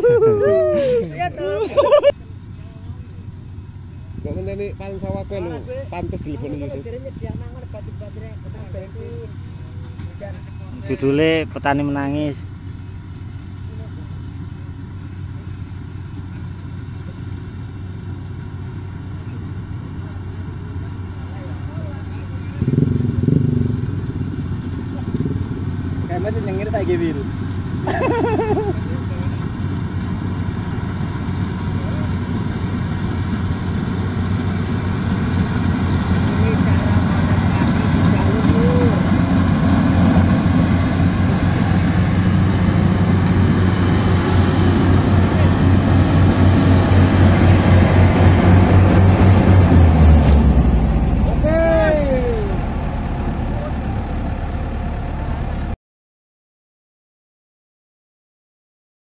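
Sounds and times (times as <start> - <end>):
diesel engine droning: 0.0 - 55.8.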